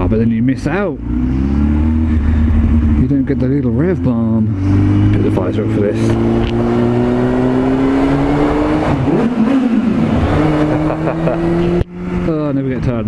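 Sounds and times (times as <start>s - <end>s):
motorcycle engine revving hard: 0.6s - 12.4s.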